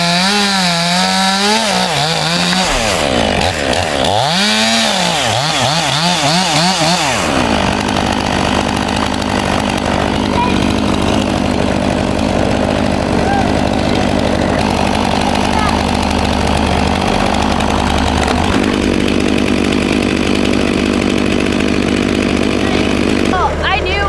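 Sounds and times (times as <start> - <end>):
chainsaw cutting log: 0.0 - 24.0.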